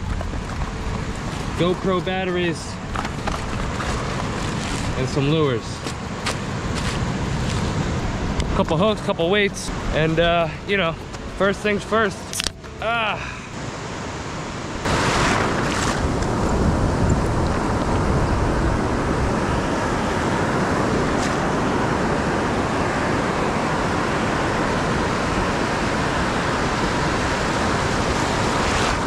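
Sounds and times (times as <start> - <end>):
wind noise: 0.0 - 11.4, 12.1 - 29.0
ocean surf breaking: 0.0 - 29.0.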